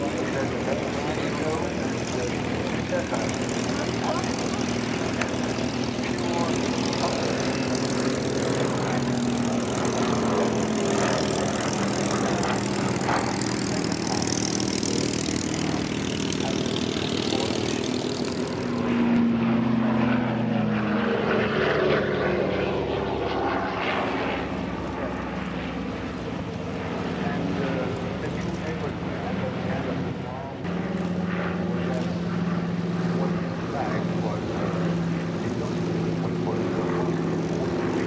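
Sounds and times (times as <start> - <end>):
propeller aircraft droning overhead: 0.0 - 38.0.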